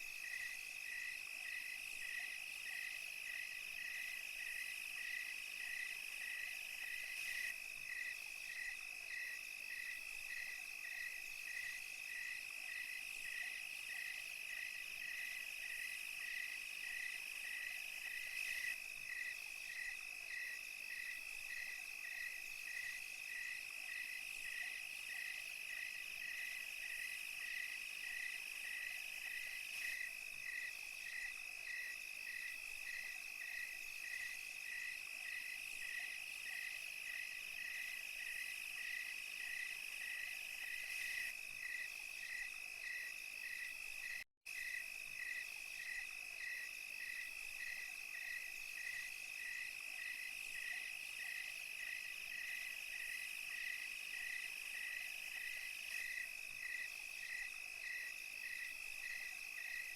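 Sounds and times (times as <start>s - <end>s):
crickets trilling: 0.0s - 59.9s
faint high insect hiss: 0.0s - 59.9s
insect chirping: 0.0s - 59.9s.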